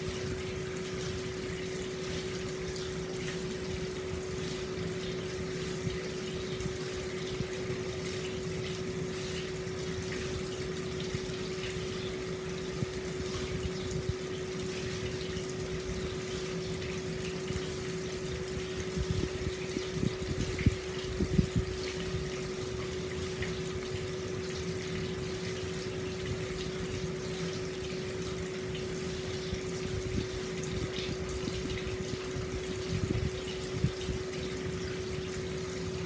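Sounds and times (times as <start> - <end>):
constant low hum: 0.0 - 36.0.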